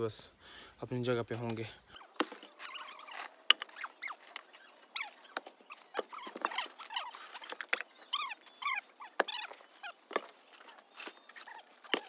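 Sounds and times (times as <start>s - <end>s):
high-pitched chirps and squeaks: 1.9s - 12.0s.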